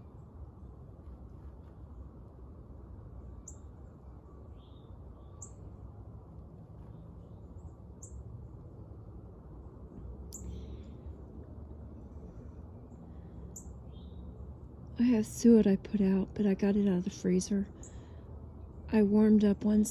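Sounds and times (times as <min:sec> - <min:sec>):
low outdoor rumble: 0:00.0 - 0:19.9.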